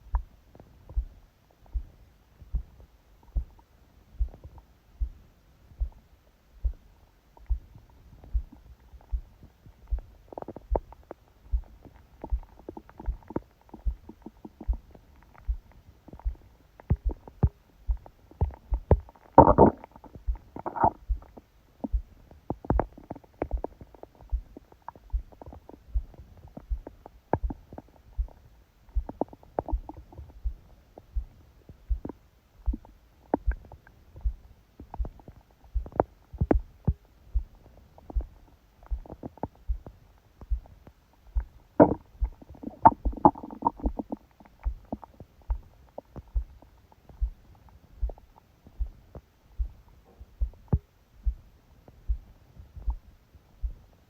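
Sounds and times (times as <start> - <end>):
fast heartbeat: 0.0 - 54.0
stomach growling and gurgling: 7.4 - 54.0.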